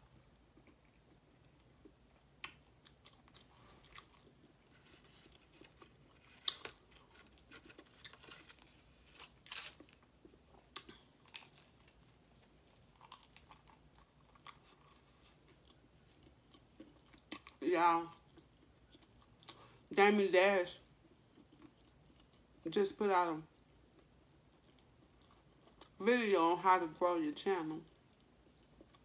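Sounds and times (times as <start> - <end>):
person chewing food: 0.0 - 19.8, 21.0 - 22.6, 23.6 - 26.0, 27.9 - 29.0.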